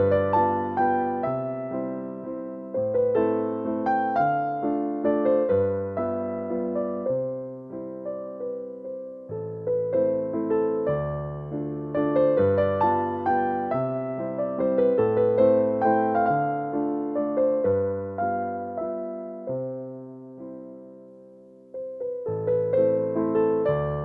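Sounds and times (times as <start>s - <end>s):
gentle piano tune: 0.0s - 24.0s.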